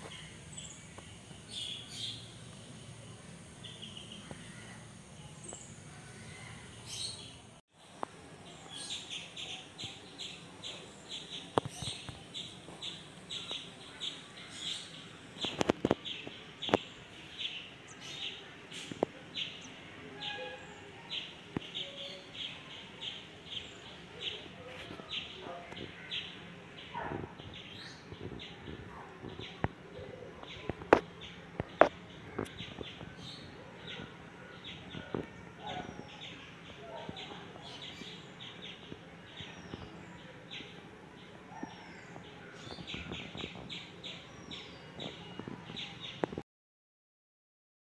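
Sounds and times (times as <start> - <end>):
small birds chirping: 0.0 - 46.4.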